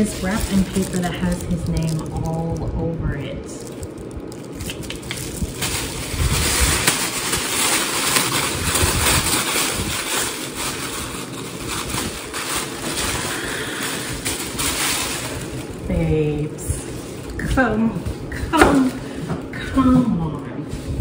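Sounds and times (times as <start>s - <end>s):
tissue paper rustling: 0.0s - 2.5s, 3.4s - 21.0s.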